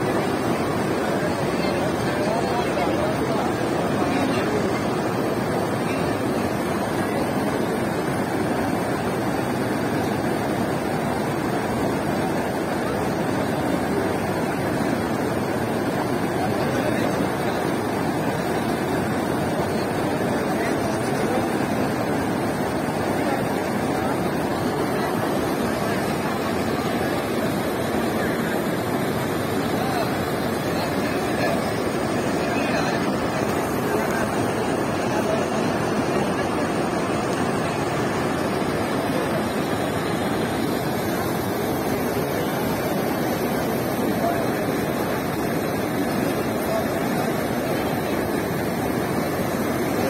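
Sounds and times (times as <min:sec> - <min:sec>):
river water rushing over stone: 0:00.0 - 0:50.0.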